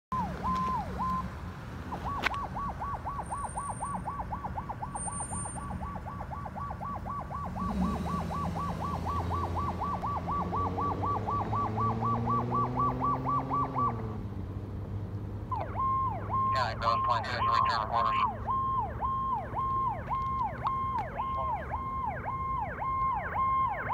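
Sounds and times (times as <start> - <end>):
fire engine siren yelping: 0.1 - 14.2, 15.5 - 23.9
truck engine accelerating: 0.1 - 23.9.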